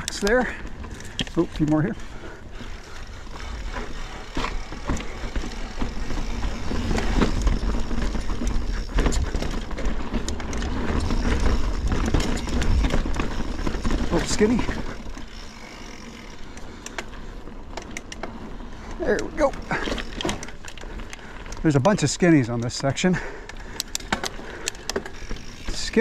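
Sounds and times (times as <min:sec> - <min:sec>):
bike rattling over rocks: 0:00.0 - 0:26.0
bike tyres rumbling on rock: 0:00.0 - 0:26.0.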